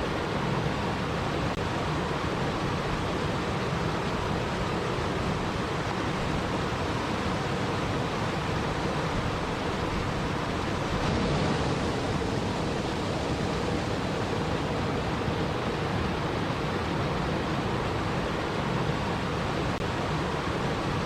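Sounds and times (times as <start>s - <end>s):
rushing water hiss: 0.0s - 21.0s.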